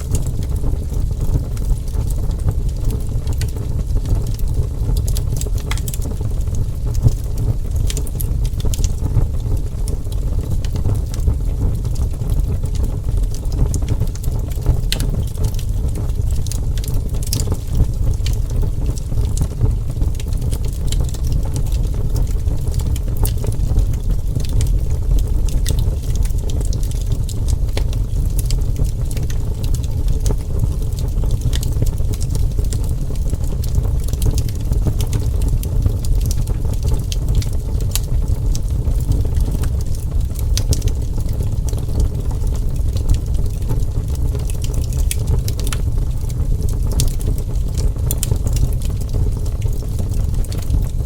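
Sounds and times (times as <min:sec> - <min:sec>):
burning wood crackling and popping: 0:00.0 - 0:51.0
low rumble of fire: 0:00.0 - 0:51.0.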